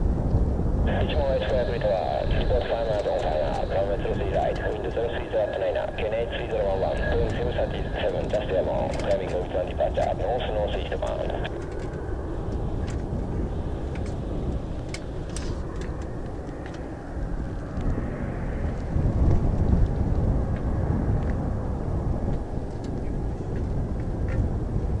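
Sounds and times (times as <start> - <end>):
jet airliner climbing rumble: 0.0 - 25.0.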